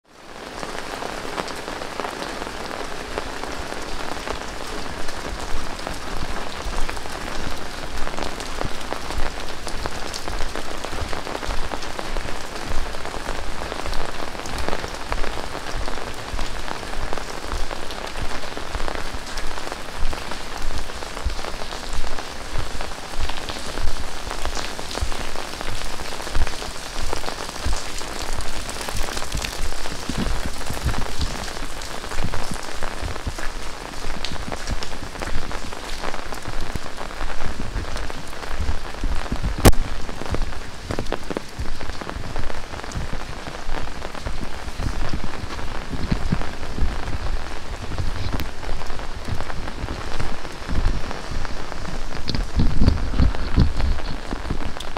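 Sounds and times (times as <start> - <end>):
close raindrop impacts: 0.0 - 54.9
heavy rain hissing on ground: 0.0 - 54.9.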